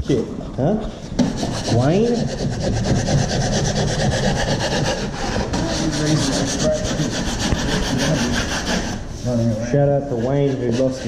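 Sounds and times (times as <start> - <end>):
fast rasping scrape: 1.2 - 11.0.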